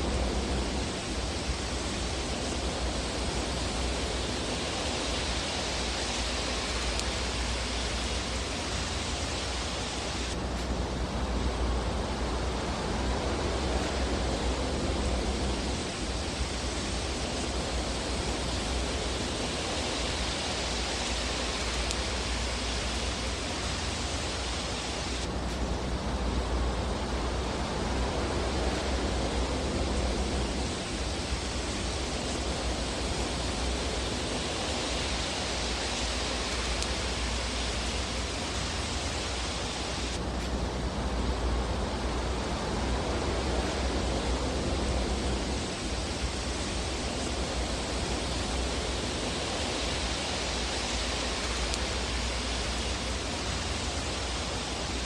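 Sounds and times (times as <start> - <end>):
fireplace fire hissing: 0.0 - 55.0.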